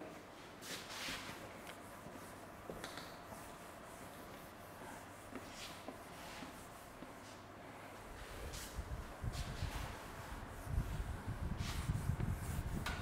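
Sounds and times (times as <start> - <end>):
low room hum: 0.0 - 13.0
cloth duster wiping whiteboard: 0.6 - 7.4, 8.1 - 13.0.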